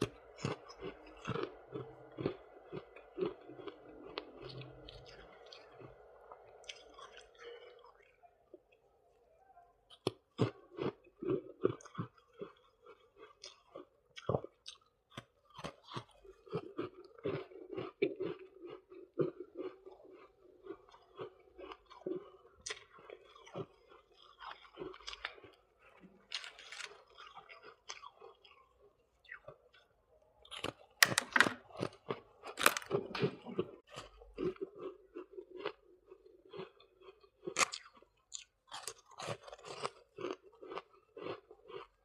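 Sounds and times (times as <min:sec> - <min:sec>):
chewing crisp frost crunches: 0:00.0 - 0:08.2, 0:10.0 - 0:30.8, 0:31.7 - 0:42.0.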